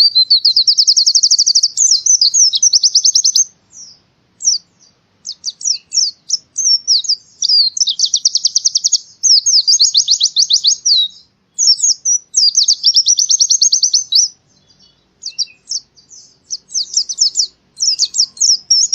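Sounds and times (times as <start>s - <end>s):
bird chirping and trilling: 0.0s - 18.9s.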